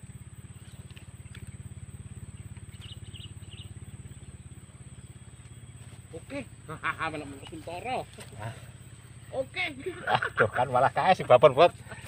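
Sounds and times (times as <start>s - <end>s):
faint bird chirps: 0.0s - 10.8s
low engine throb: 0.0s - 12.0s.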